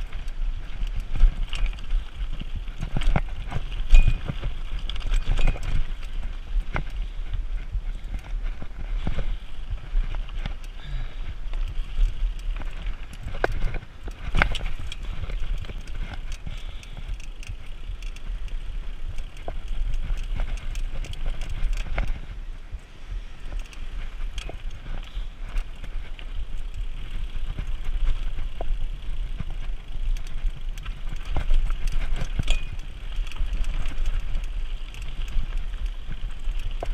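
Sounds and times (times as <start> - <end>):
tyres crunching over loose stones: 0.0 - 22.4, 23.3 - 36.9
bike clicks and rattles: 0.0 - 36.9.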